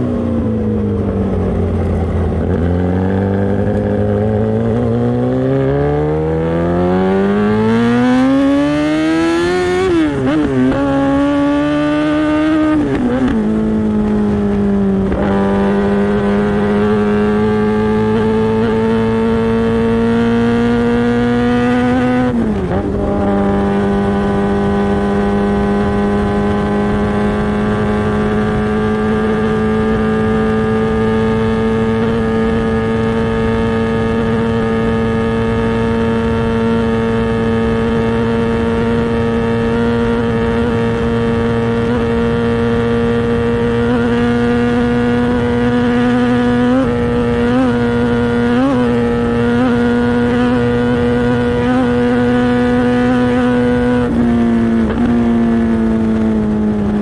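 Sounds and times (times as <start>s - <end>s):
motorcycle engine accelerating hard: 0.0s - 57.0s.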